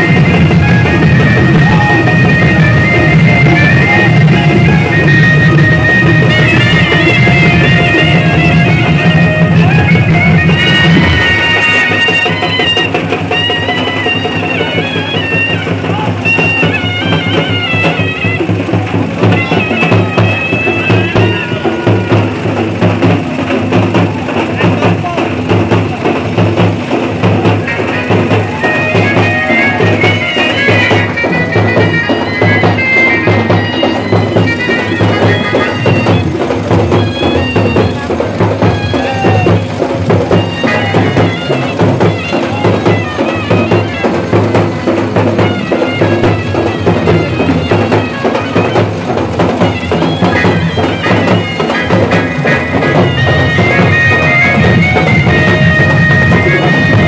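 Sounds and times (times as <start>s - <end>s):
shrill reed wind instrument: 0.0s - 24.4s, 26.0s - 57.0s
steady drum beat: 0.0s - 57.0s.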